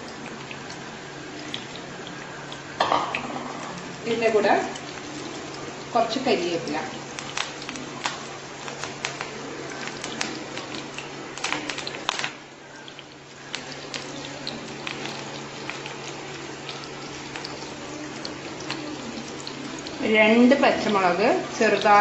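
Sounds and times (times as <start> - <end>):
oil popping: 0.0 - 22.0
onions sizzling in oil: 0.0 - 22.0.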